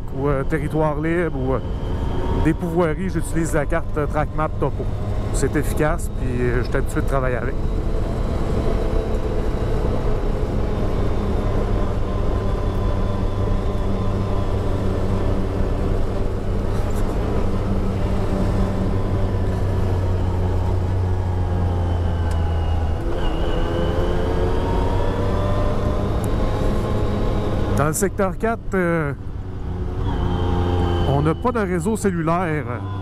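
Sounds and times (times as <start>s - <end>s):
utility vehicle engine running: 0.0s - 33.0s.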